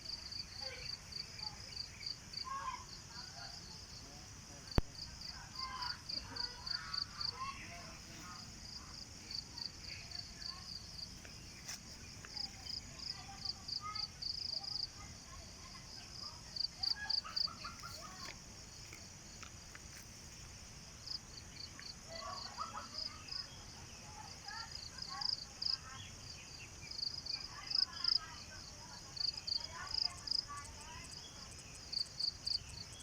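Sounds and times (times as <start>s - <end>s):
insects chirping: 0.0s - 33.0s
rural outdoor background: 0.0s - 33.0s.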